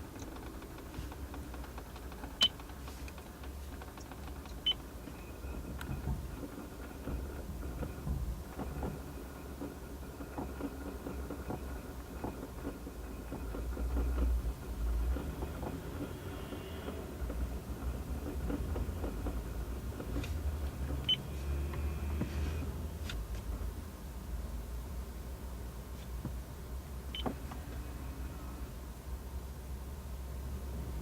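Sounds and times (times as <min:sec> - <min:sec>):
car engine idling hum: 0:00.0 - 0:31.0.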